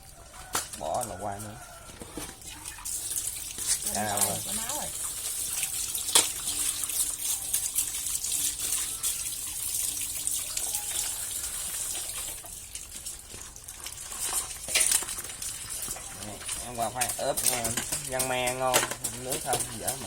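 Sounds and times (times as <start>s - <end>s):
water running from tap: 0.0s - 20.0s.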